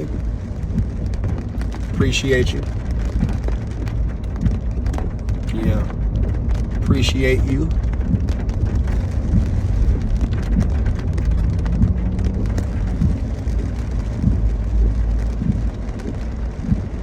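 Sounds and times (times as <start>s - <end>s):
engine and road rumble: 0.0s - 17.0s
rain ticking on car: 0.0s - 17.0s.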